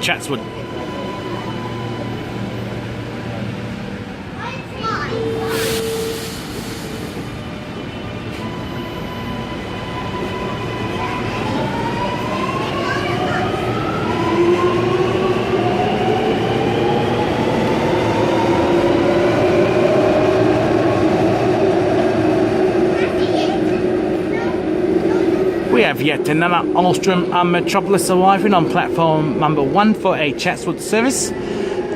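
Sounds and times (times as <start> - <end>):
train running noise: 0.0 - 31.9.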